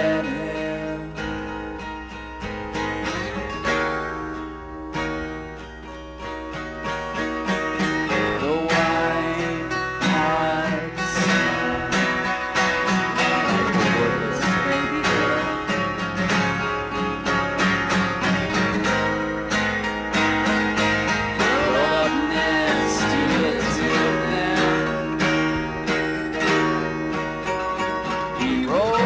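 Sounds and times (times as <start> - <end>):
rock guitar: 0.0 - 29.0.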